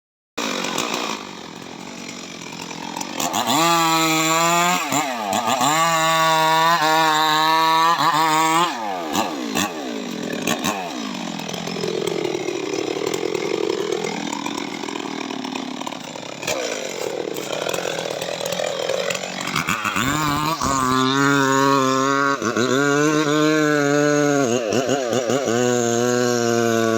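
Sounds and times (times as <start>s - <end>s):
chainsaw running: 0.4s - 26.9s.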